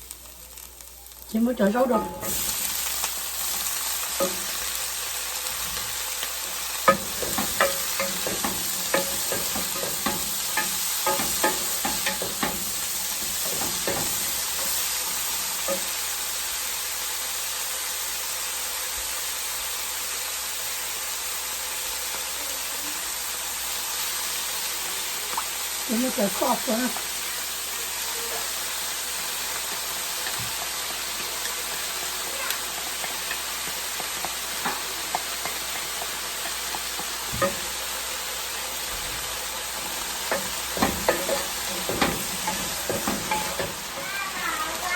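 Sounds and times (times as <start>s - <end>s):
food sizzling in a hot pan: 0.0s - 44.9s.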